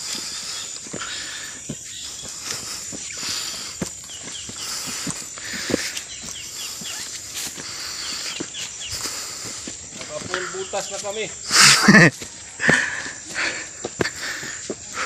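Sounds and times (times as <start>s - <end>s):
footsteps crunching on dirt: 0.0s - 15.0s
high insect drone: 0.0s - 15.0s.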